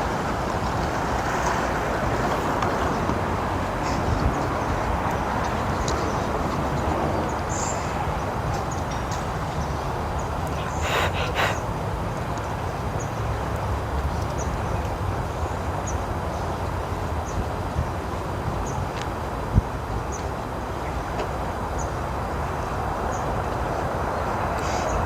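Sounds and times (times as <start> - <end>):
rustle: 0.0 - 25.0.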